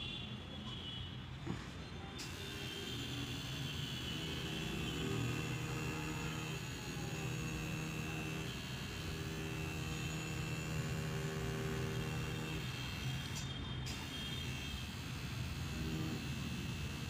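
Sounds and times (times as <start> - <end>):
tattoo machine buzzing: 2.2 - 17.0.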